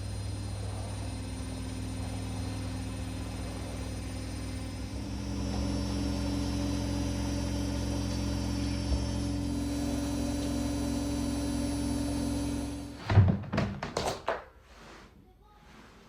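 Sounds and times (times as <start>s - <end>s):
small electric motor humming: 0.0s - 13.0s.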